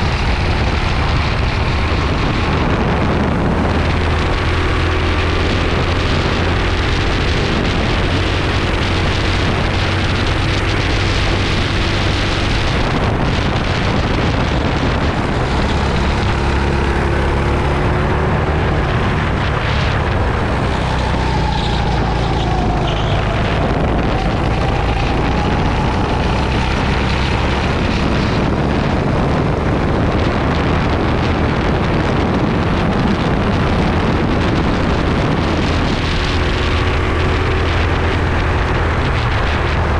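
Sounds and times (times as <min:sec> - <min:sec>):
go-kart engine running hard: 0:00.0 - 0:39.9
wind buffeting microphone: 0:00.0 - 0:39.9.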